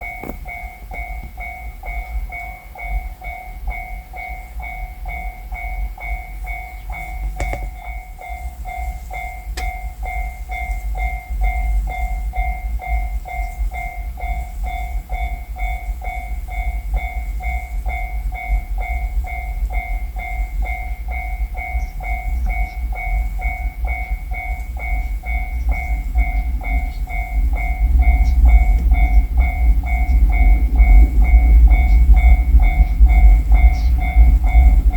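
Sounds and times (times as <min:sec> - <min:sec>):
level crossing warning bell: 0:00.0 - 0:34.9
low rumble: 0:06.2 - 0:34.9.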